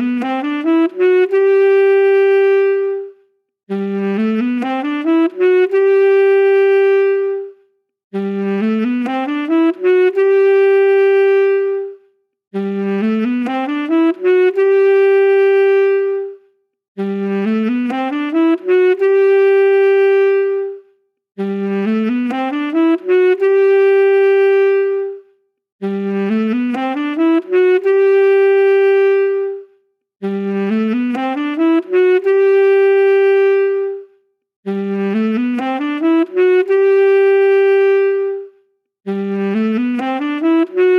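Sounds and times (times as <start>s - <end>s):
saxophone phrase: 0.0s - 12.0s, 12.6s - 16.4s, 17.0s - 34.1s, 34.7s - 40.9s.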